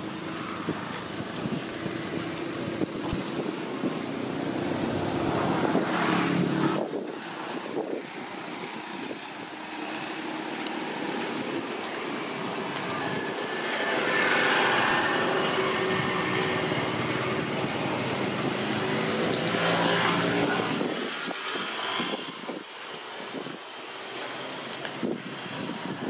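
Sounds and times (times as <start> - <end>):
motor engine drone: 0.0 - 23.4.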